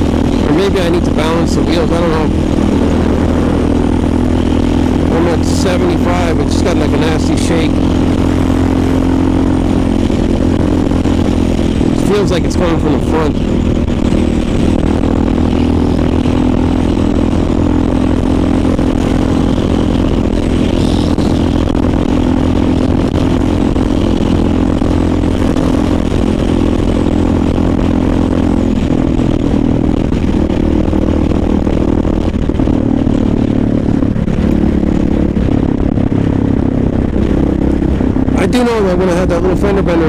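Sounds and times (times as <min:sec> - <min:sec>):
constant wind rush: 0:00.0 - 0:40.0
motorcycle engine running: 0:00.0 - 0:40.0.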